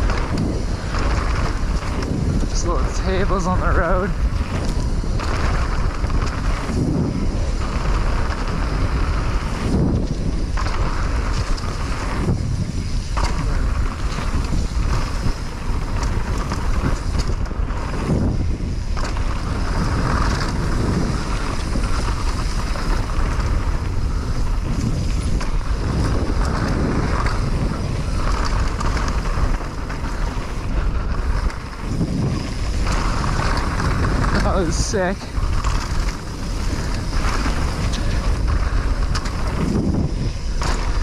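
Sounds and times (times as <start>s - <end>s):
bike knocking and rattling: 0.0s - 41.0s
tyres rolling on dirt: 0.0s - 41.0s
wind rushing over microphone: 0.0s - 41.0s.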